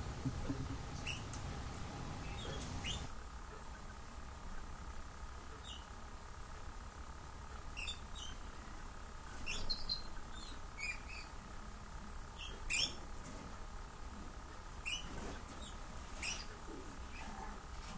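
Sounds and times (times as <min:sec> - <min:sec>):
faint low hum: 0:00.0 - 0:17.9
songbirds chirping: 0:00.0 - 0:17.9.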